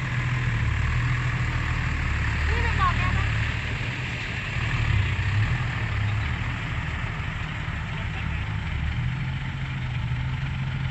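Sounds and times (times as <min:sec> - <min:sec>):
heavy diesel engine running: 0:00.0 - 0:10.9.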